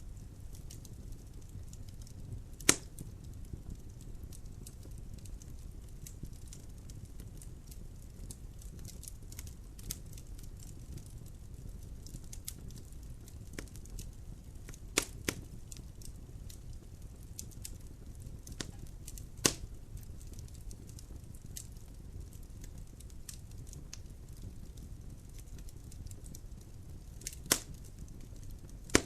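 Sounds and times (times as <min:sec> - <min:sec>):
logs burning in fireplace: 0:00.0 - 0:29.0
loud fire pops: 0:00.1 - 0:29.0.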